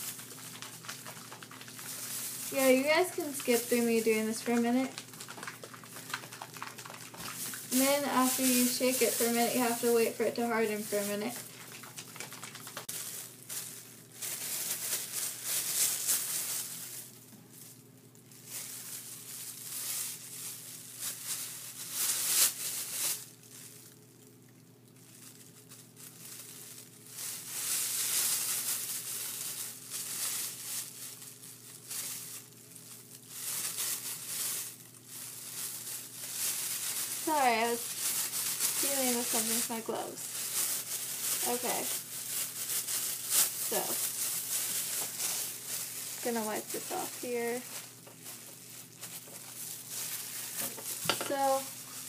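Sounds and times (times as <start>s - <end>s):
thin plastic crinkling: 0.0s - 52.0s.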